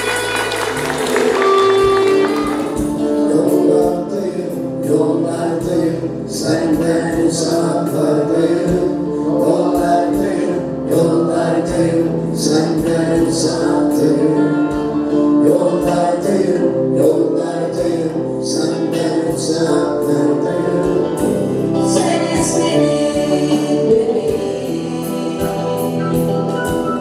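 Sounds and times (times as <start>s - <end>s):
live band playing: 0.0s - 27.0s
man singing into a microphone: 3.0s - 26.6s.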